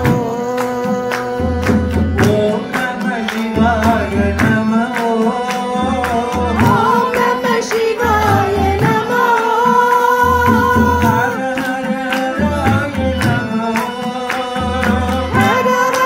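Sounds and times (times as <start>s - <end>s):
instrumental accompaniment: 0.0s - 16.0s
voices singing held notes: 0.0s - 16.0s.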